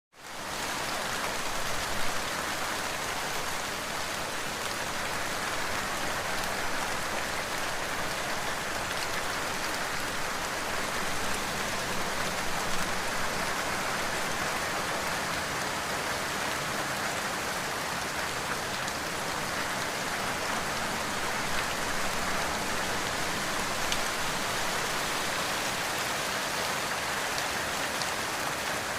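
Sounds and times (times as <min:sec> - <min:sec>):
heavy rain falling: 0:00.2 - 0:28.9.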